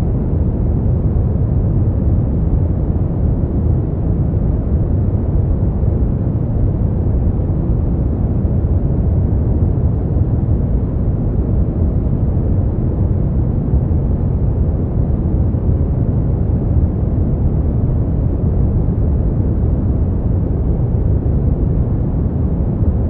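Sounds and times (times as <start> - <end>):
low rumbling white noise: 0.0 - 23.0.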